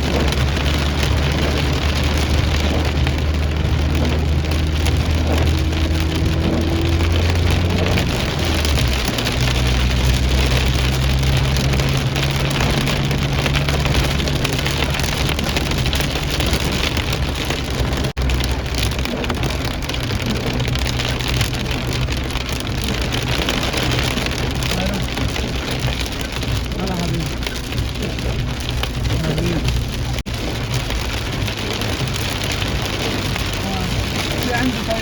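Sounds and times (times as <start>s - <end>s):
steady rain falling: 0.0s - 35.0s
vehicle engine hum: 0.0s - 35.0s.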